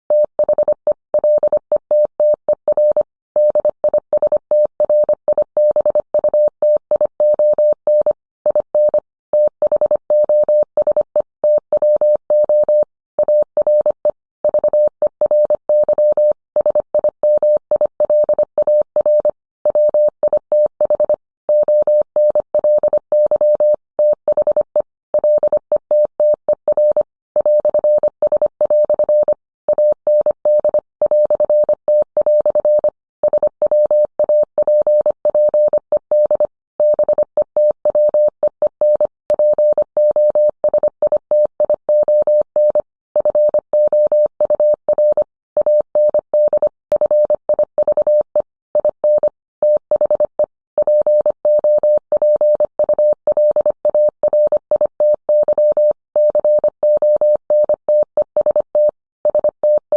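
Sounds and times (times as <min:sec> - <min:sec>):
morse code beeps: 0:00.1 - 0:59.9.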